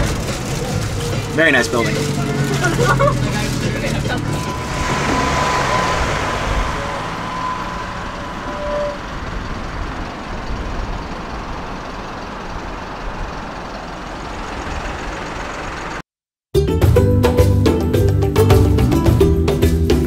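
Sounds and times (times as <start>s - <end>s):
bus engine and road noise: 0.0s - 16.1s.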